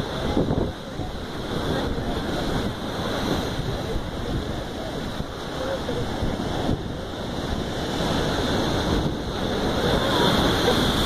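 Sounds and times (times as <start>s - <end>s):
waves breaking against sea wall: 0.0s - 11.0s
wind buffeting microphone: 0.0s - 11.0s.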